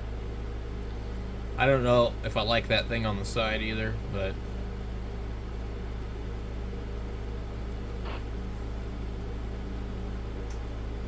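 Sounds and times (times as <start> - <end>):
low electrical hum with hiss: 0.0 - 11.0.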